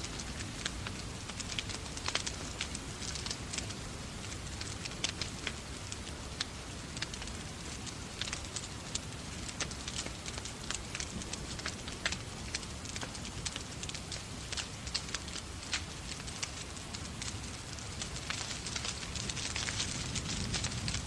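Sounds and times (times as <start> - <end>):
rain falling: 0.0 - 21.0
wood fire crackling: 0.0 - 21.0.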